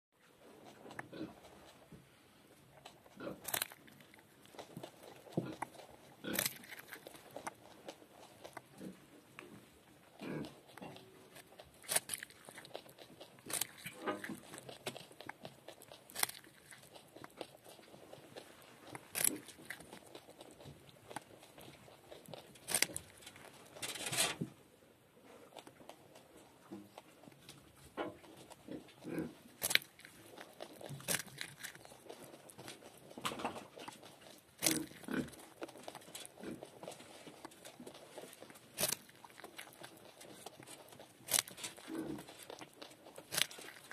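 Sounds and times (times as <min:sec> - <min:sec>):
rodent gnawing carrot crunches: 0:00.2 - 0:24.6, 0:25.2 - 0:43.9
quiet chewing: 0:00.2 - 0:43.9.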